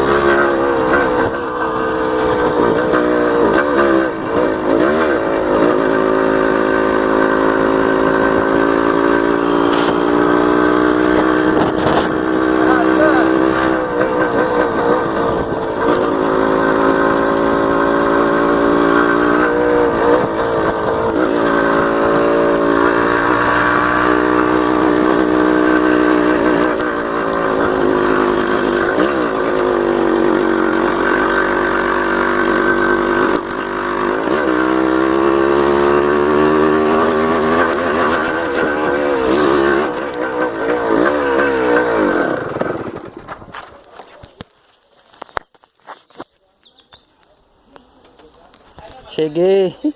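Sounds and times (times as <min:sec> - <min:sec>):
two-stroke motorcycle engine revving: 0:00.0 - 0:46.2.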